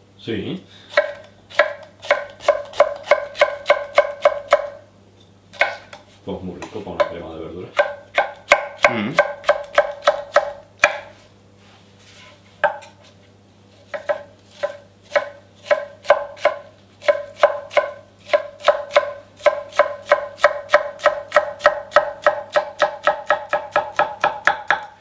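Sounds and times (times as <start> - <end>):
knife chopping on wooden board: 0.9 - 4.8, 5.5 - 7.2, 7.8 - 11.1, 12.6 - 13.1, 13.8 - 25.0.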